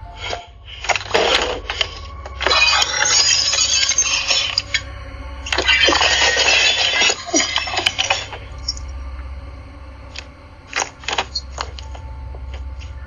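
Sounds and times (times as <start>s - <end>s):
steady low hum: 0.0s - 13.0s
debris clinking: 0.2s - 8.9s, 10.1s - 13.0s.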